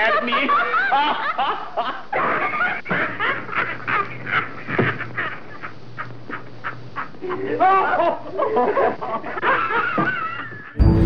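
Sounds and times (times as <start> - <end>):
men laughing hard: 0.0 - 10.8.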